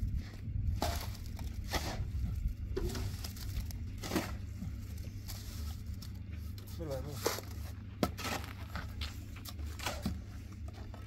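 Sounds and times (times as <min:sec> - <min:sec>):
hoe scraping mortar mix: 0:00.0 - 0:11.0
low rumble: 0:00.0 - 0:11.0.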